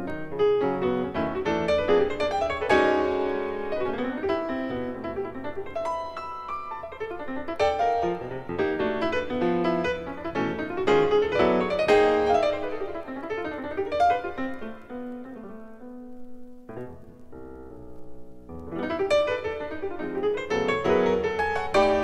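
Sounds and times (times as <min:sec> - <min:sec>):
solo jazz piano: 0:00.0 - 0:22.0.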